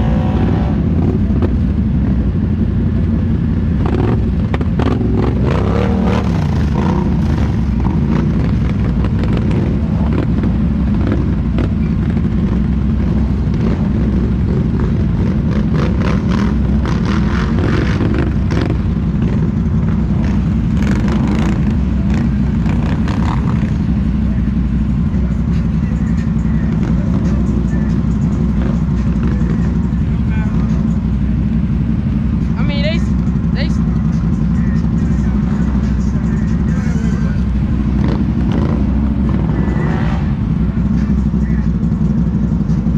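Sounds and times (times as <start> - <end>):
off-road vehicle engine running: 0.0 - 42.9.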